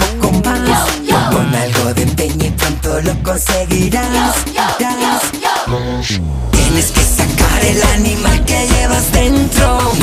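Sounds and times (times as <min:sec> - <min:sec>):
upbeat electronic dance-pop music: 0:00.0 - 0:10.0.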